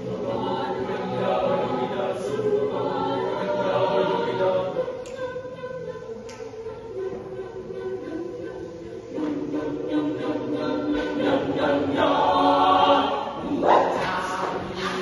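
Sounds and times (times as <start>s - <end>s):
choir singing a cappella: 0.0s - 15.0s.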